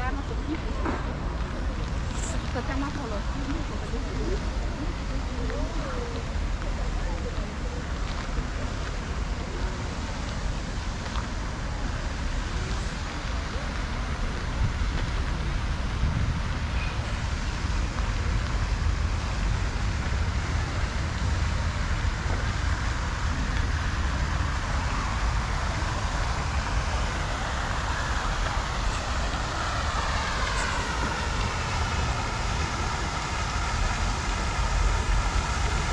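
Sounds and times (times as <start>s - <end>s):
fountain water splashing: 0.0s - 35.9s
low rumble: 0.0s - 35.9s.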